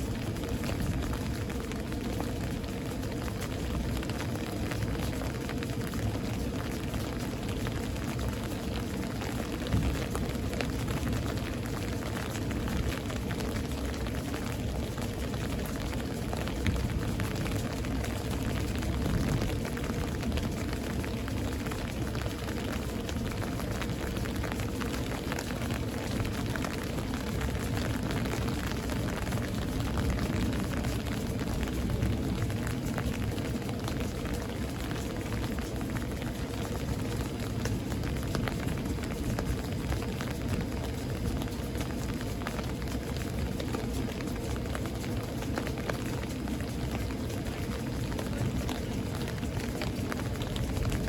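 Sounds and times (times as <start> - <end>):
rain drops ticking: 0.0 - 51.0.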